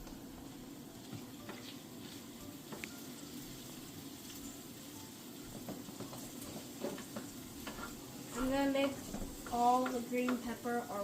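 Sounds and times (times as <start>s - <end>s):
bacon sizzling in a frying pan: 0.0s - 11.0s.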